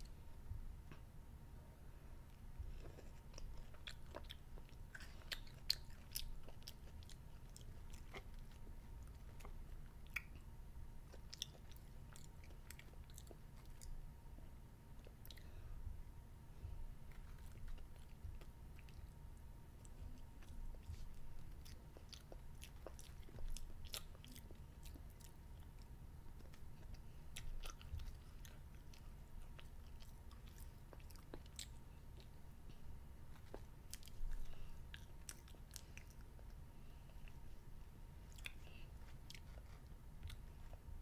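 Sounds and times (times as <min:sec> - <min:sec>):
child chewing crunchy candy: 0:02.3 - 0:15.6, 0:17.0 - 0:19.2, 0:19.8 - 0:41.0.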